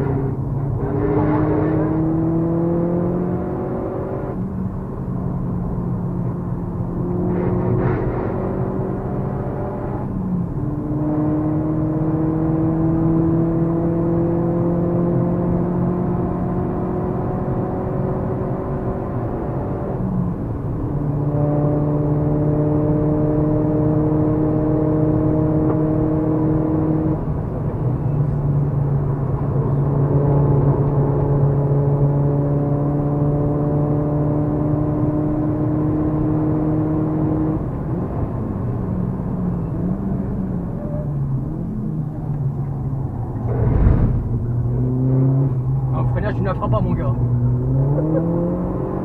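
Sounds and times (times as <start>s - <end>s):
car engine pulling hard: 7.0s - 49.0s.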